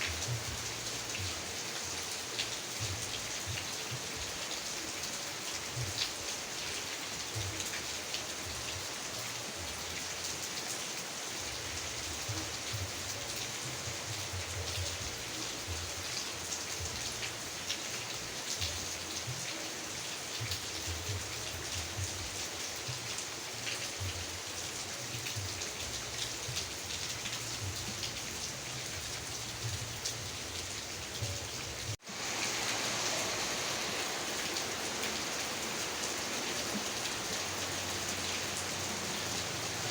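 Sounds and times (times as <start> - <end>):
heavy rain falling: 0.0 - 39.9
raindrops ticking: 0.0 - 39.9.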